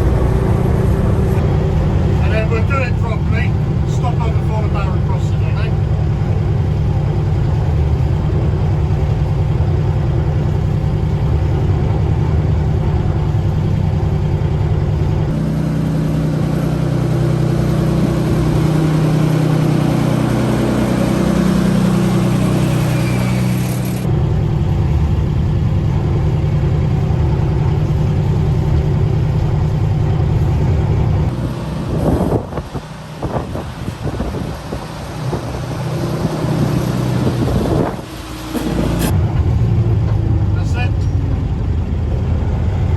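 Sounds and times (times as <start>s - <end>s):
diesel locomotive engine running: 0.0s - 42.9s.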